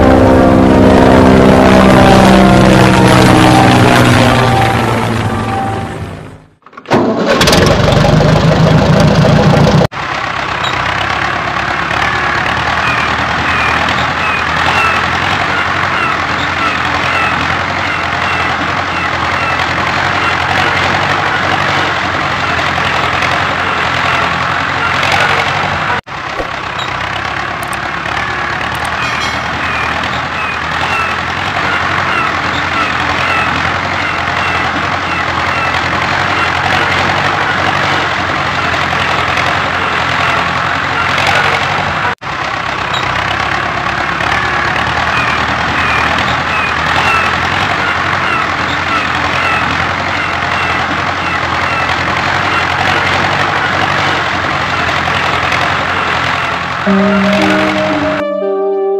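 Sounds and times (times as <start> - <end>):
tractor engine running: 0.0 - 57.3.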